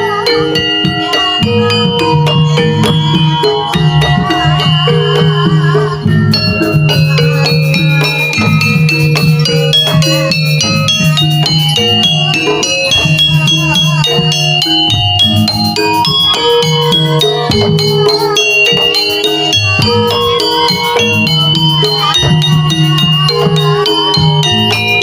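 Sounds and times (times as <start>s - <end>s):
pitched percussion ensemble: 0.0s - 25.0s
wavering melody line: 0.0s - 25.0s.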